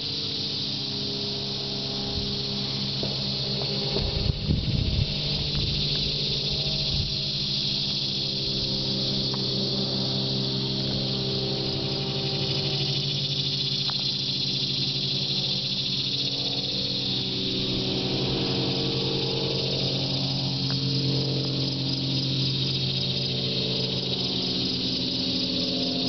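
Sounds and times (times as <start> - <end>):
cicadas buzzing: 0.0 - 26.0
low droning hum: 0.0 - 26.0.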